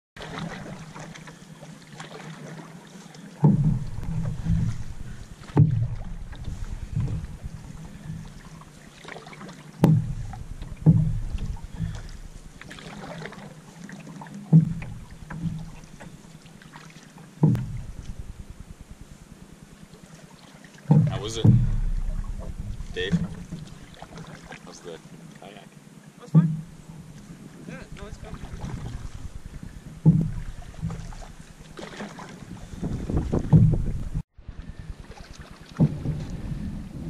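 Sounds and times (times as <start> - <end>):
dull thump through canoe hull: 0.2 - 19.2, 20.8 - 24.6, 26.2 - 34.2, 35.0 - 37.0
paddle swishing and dripping: 0.2 - 37.0.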